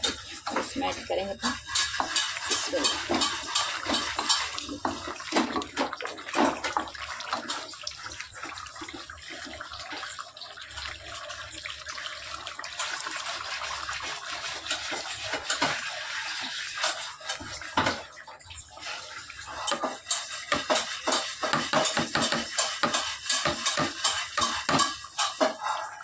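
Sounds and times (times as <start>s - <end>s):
wooden spoon scraping a pan: 0.0s - 10.1s, 12.7s - 26.0s
curry sizzling and bubbling in oil: 0.0s - 26.0s.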